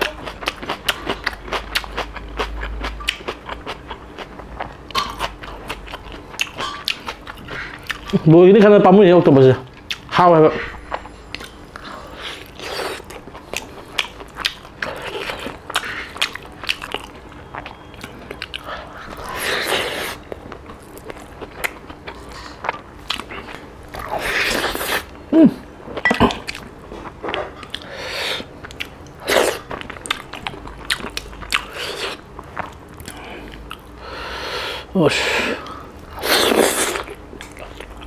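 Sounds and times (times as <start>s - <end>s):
man chewing: 0.0s - 8.3s, 9.7s - 38.0s.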